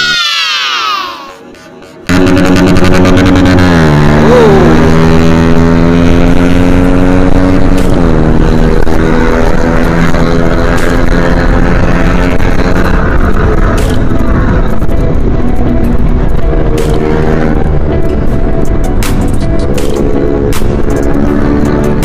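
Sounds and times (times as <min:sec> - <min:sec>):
motorcycle engine running: 0:02.1 - 0:22.0.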